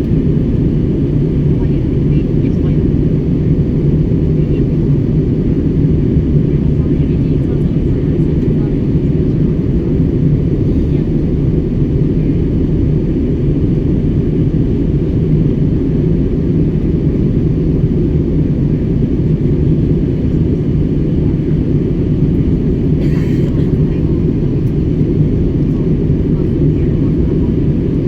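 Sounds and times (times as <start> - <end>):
airliner cabin rumble in flight: 0.0 - 28.0.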